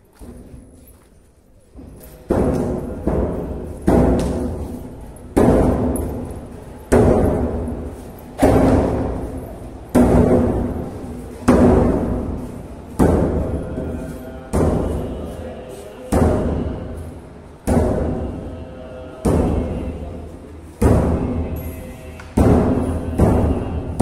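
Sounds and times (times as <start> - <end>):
large drum beaten slowly: 2.3 - 15.4, 16.1 - 17.0, 17.6 - 24.0.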